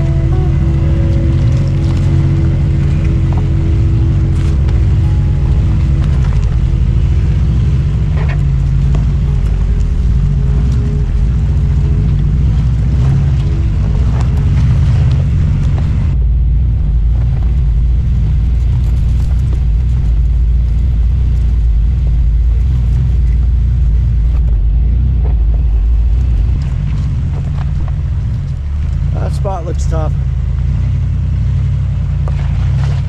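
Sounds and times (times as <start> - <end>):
engine running at low revs: 0.0 - 33.0.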